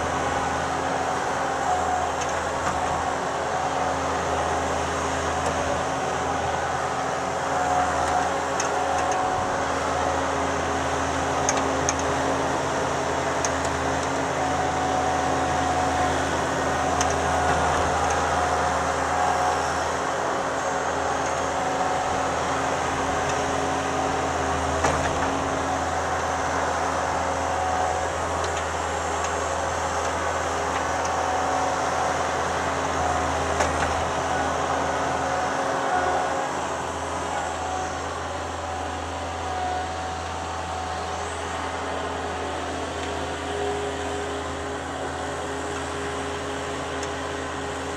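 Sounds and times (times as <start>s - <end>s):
skid steer engine running: 0.0s - 47.9s.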